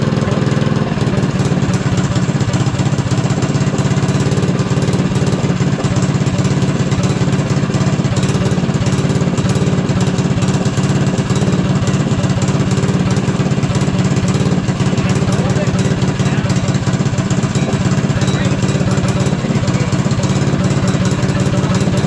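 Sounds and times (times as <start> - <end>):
go-kart engine idling: 0.0 - 22.0.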